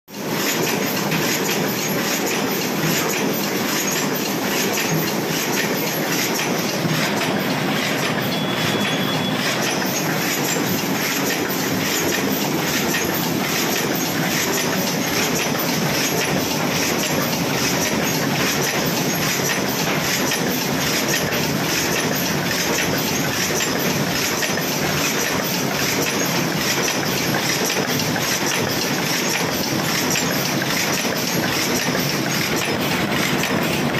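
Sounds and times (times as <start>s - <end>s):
paper cup machine clattering: 0.2s - 33.9s.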